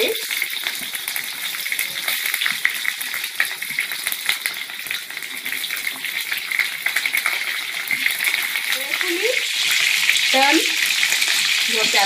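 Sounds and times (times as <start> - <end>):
peppers sizzling in hot oil: 0.0 - 12.0.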